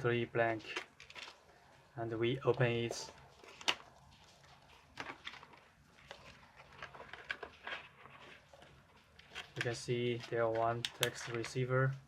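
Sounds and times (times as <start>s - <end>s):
package rustling: 0.7s - 11.6s.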